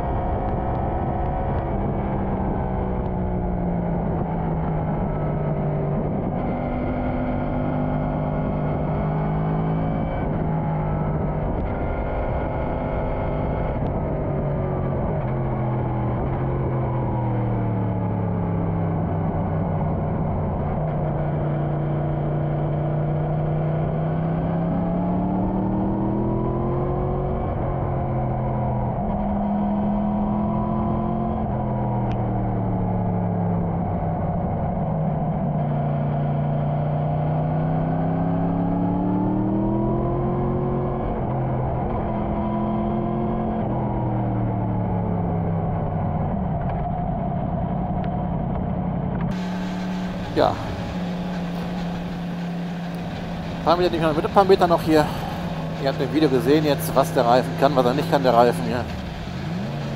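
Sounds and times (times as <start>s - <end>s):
motorcycle engine shifting gears: 0.0s - 59.9s.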